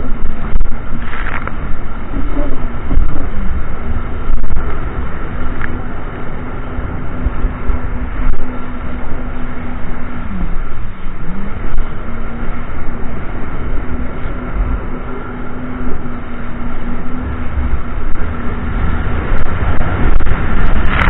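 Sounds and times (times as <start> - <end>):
jet ski engine running: 0.0 - 21.0
water rushing and splashing: 0.0 - 21.0
wind noise: 0.0 - 21.0.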